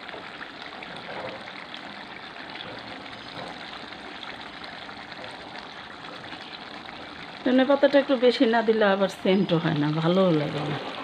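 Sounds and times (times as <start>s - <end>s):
curry bubbling and hissing: 0.0s - 11.0s.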